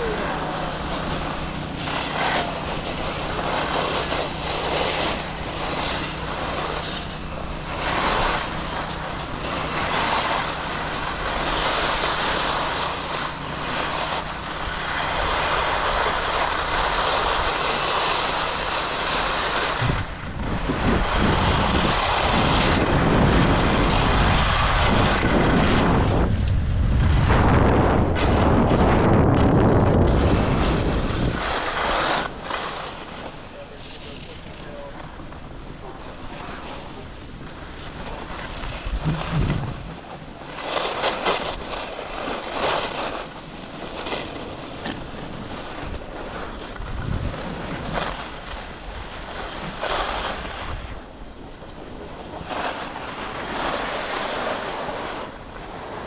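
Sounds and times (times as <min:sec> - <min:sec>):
wind buffeting microphone: 0:00.0 - 0:33.5, 0:34.2 - 0:56.0
skis scraping over hard snow: 0:00.0 - 0:56.0.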